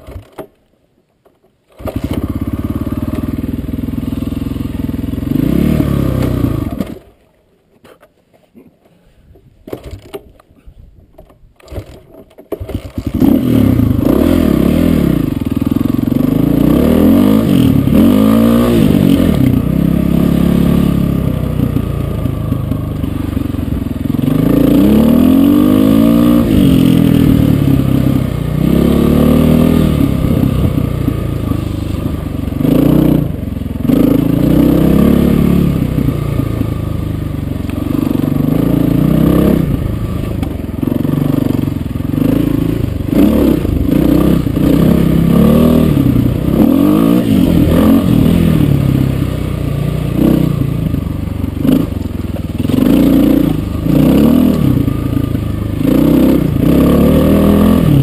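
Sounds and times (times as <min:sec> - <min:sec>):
dirt bike engine revving: 0:01.7 - 0:07.0, 0:12.6 - 0:58.0.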